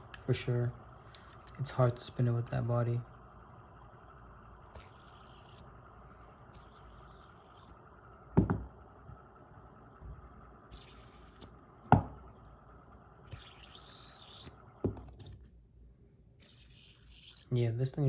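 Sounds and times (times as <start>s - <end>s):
fidget spinner whirring: 0.0s - 15.6s, 16.3s - 18.0s.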